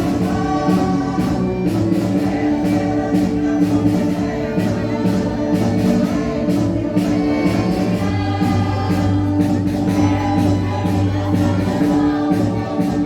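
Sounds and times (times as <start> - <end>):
band accompaniment with steady beat: 0.0 - 13.0
group of voices singing: 0.0 - 13.0.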